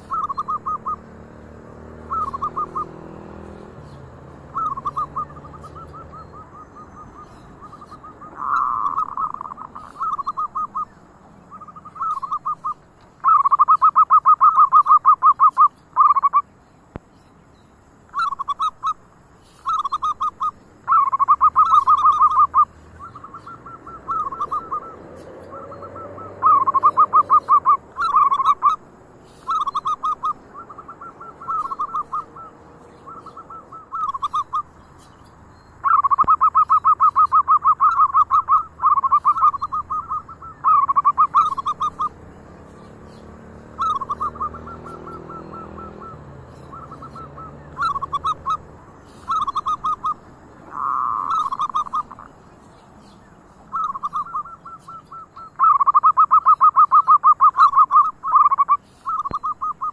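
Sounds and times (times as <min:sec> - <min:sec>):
doves cooing: 0:00.0 - 0:16.4, 0:18.1 - 0:35.1, 0:35.8 - 0:59.9.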